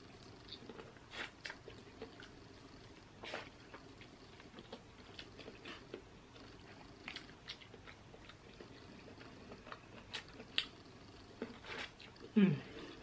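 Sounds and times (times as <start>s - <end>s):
person chewing food: 0.4s - 13.0s.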